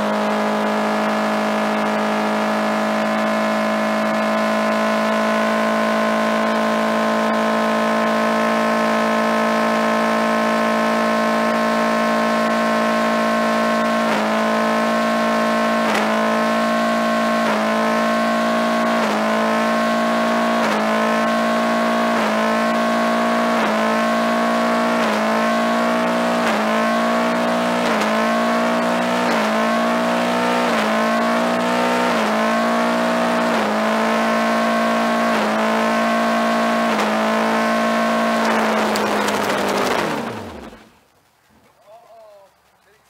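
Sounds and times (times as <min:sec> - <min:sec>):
car engine at high revs: 0:00.0 - 0:41.0.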